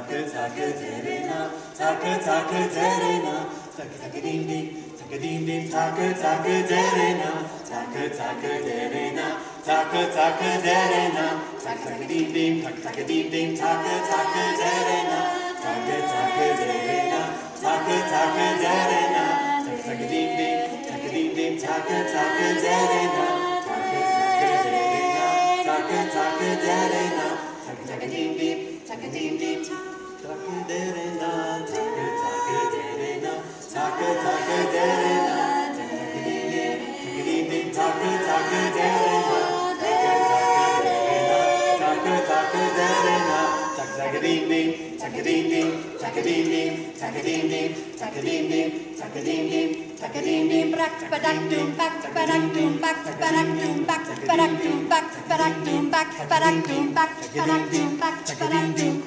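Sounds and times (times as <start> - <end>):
voices singing a cappella: 0.0 - 59.0.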